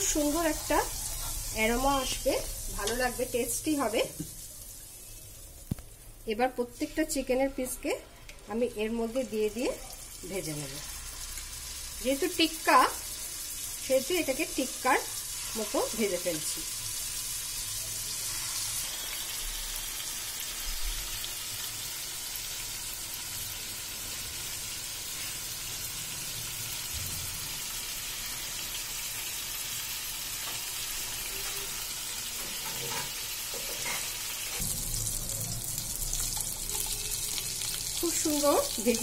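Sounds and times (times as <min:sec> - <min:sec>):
chicken sizzling in a frying pan: 0:00.0 - 0:07.8, 0:08.4 - 0:39.0.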